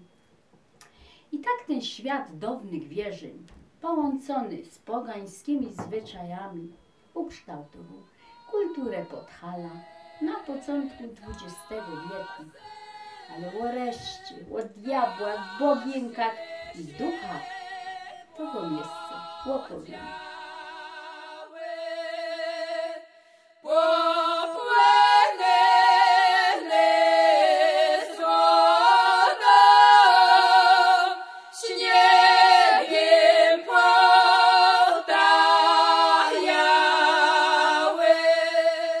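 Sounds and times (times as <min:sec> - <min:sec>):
voices singing in close harmony: 0:07.8 - 0:39.0.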